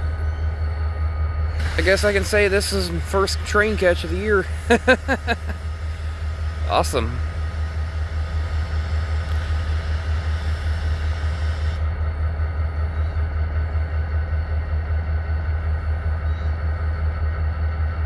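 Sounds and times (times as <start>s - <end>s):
diesel locomotive rumbling: 0.0s - 18.0s.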